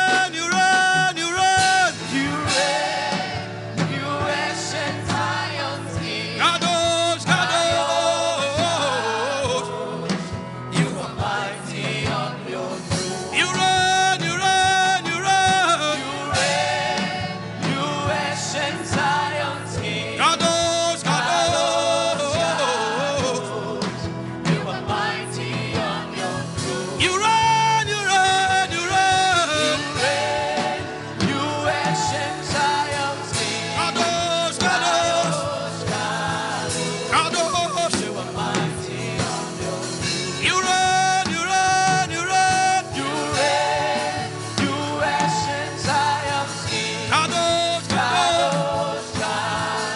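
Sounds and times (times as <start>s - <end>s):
gospel singing: 0.0s - 49.9s
musical accompaniment: 0.0s - 49.9s.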